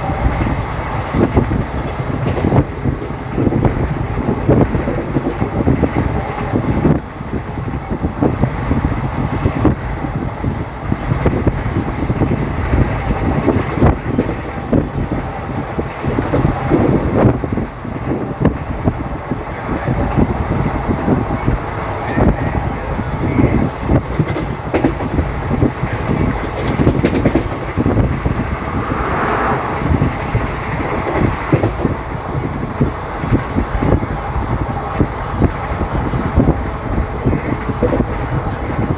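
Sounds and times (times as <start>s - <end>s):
train rumble: 0.0s - 38.9s
wheels clanking on rails: 0.0s - 38.9s
wind buffeting microphone: 0.0s - 38.9s.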